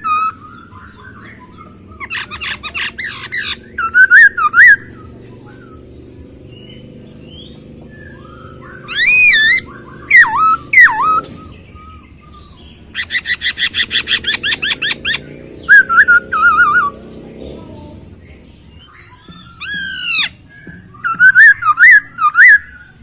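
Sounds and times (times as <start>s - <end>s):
bird singing whistled phrases: 0.0s - 5.9s, 6.5s - 17.0s, 18.7s - 23.0s.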